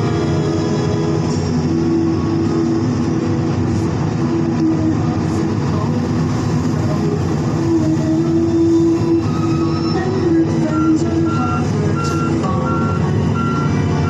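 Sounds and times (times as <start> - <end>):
excavator diesel engine running: 0.0 - 14.0
hydraulic whine: 0.0 - 14.0.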